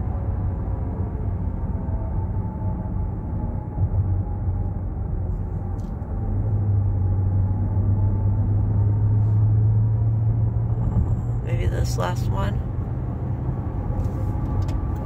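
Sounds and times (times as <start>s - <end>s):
car engine drone: 0.0s - 15.0s
road noise: 0.0s - 15.0s.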